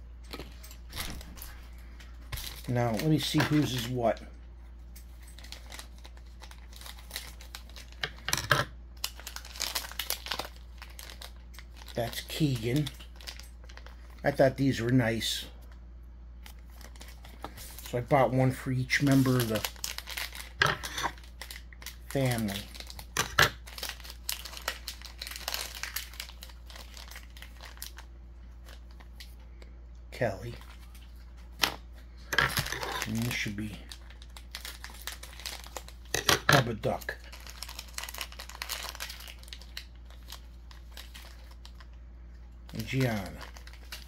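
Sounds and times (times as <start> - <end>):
plastic wrapping crinkling: 0.3 - 4.2, 5.0 - 14.5, 16.4 - 29.4, 32.5 - 42.0, 42.6 - 44.0.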